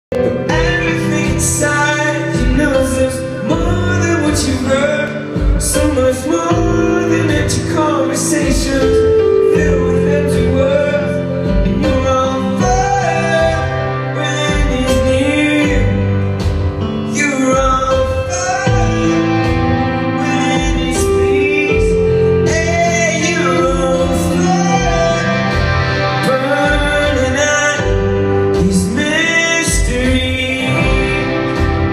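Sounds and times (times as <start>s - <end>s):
drums: 0.0s - 31.9s
acoustic guitar: 0.1s - 31.9s
man singing into a microphone: 0.1s - 31.9s.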